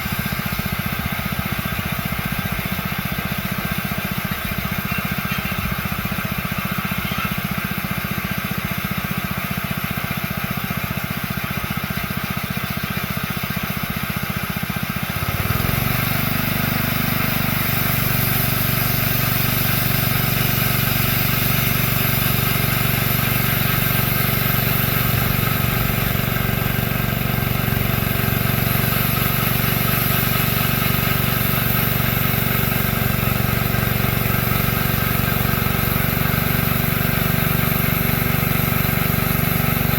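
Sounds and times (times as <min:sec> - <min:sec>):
small engine running saw: 0:00.0 - 0:39.9.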